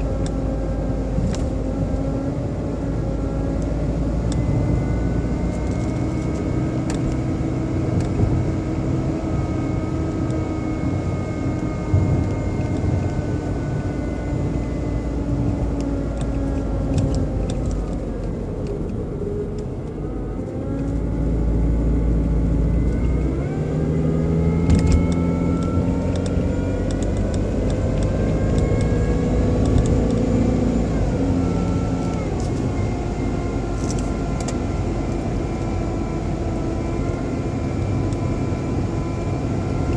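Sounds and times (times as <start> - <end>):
car engine running: 0.0 - 39.9
motor-like whine: 0.0 - 39.9.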